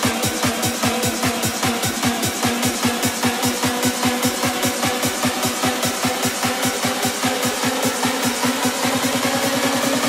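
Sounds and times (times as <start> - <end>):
fast electronic dance beat: 0.0 - 10.0.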